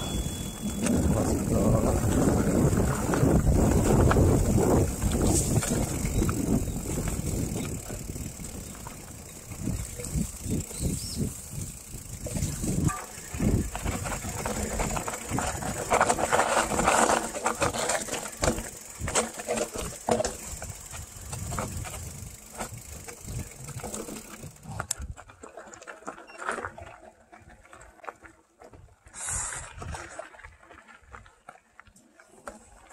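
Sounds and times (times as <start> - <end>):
bike knocking and rattling: 0.0 - 32.9
bike tyres on rough dirt trail: 0.0 - 32.9.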